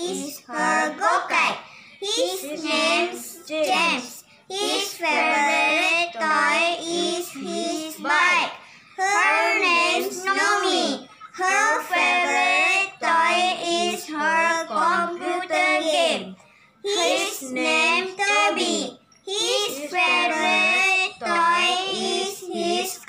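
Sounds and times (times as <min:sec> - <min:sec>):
children reading aloud together: 0:00.0 - 0:23.0.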